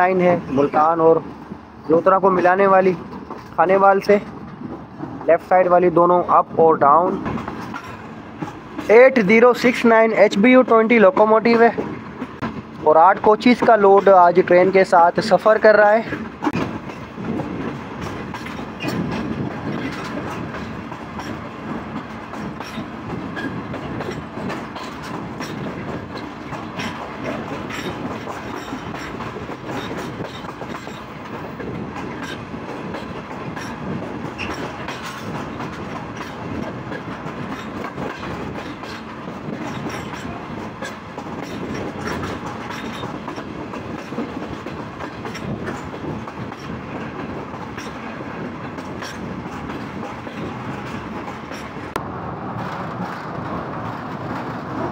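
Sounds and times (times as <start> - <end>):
train wheels rumbling on track: 0.0 - 54.9
wheels clicking over rail joints: 0.0 - 54.9.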